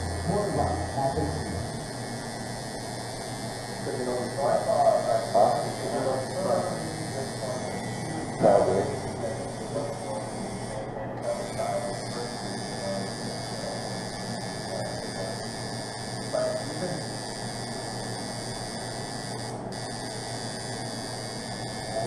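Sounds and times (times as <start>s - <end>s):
tattoo machine buzzing: 0.0s - 22.0s.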